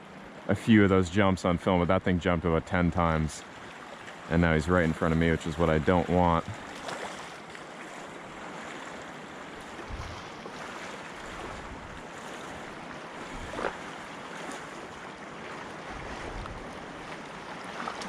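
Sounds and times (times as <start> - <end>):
choppy lake water: 0.0 - 18.0
wind: 0.0 - 18.0.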